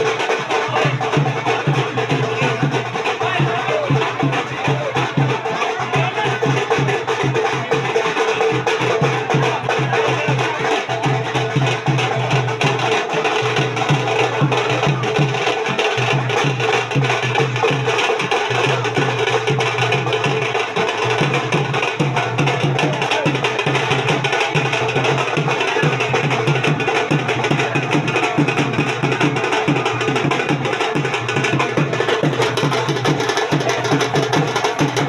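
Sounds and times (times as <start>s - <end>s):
song with percussion beat: 0.0s - 35.0s.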